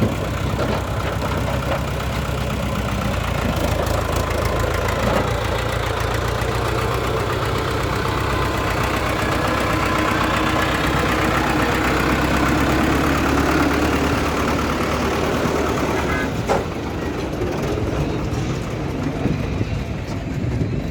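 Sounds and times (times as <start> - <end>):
heavy machinery diesel engine: 0.0 - 20.9.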